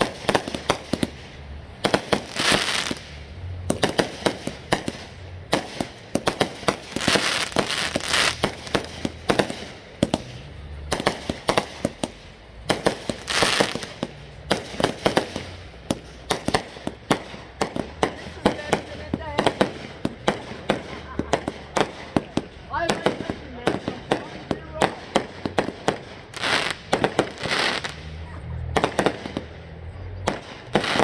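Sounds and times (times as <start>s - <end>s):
fireworks hissing burst: 0.0s - 28.2s
fireworks cracking and popping: 0.0s - 31.0s.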